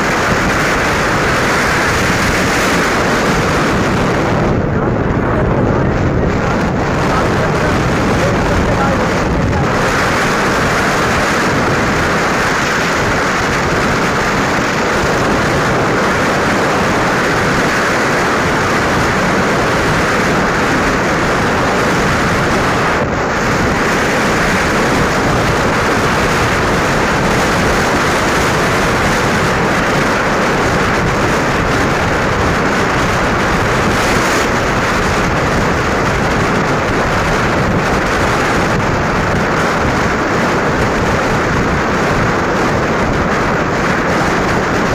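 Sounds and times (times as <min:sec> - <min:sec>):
motorcycle road and engine noise: 0:00.0 - 0:44.9
wind rushing over microphone: 0:00.0 - 0:44.9.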